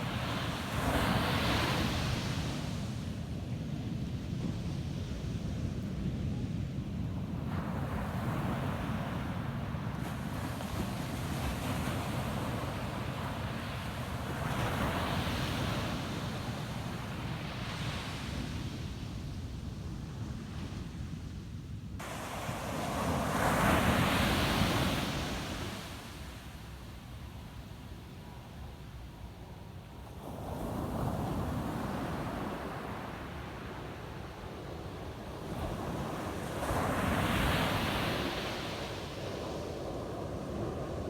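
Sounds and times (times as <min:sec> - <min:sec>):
wind rumble on microphone: 0:00.0 - 0:41.0.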